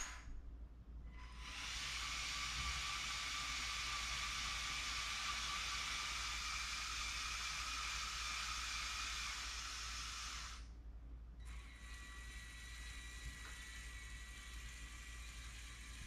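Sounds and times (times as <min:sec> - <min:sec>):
small electric motors whirring: 0:01.1 - 0:10.7, 0:11.4 - 0:16.0.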